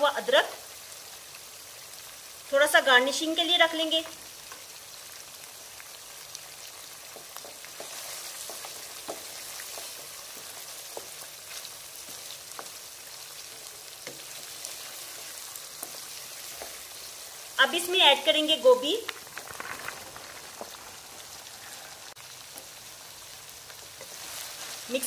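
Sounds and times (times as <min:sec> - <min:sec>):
curry sizzling in a wok: 0:00.0 - 0:25.0.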